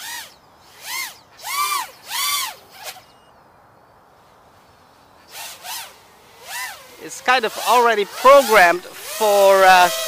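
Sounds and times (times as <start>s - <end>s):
quadcopter motors whining: 0.0s - 3.4s, 4.2s - 10.0s.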